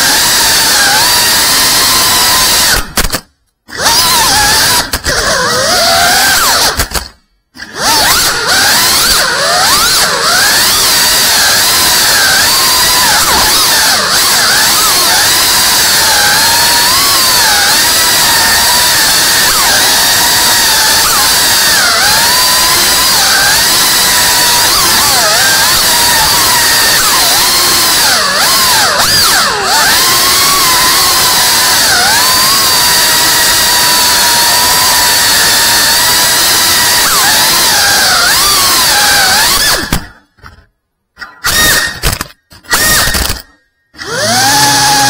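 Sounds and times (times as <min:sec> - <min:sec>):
drone motors whining: 0:03.7 - 0:45.0.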